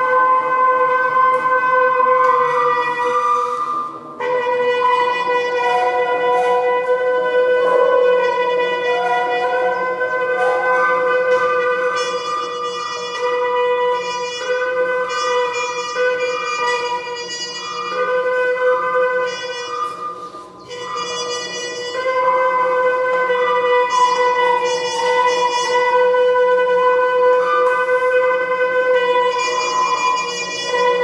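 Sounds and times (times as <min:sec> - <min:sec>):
brass instruments holding notes: 0:00.0 - 0:31.0.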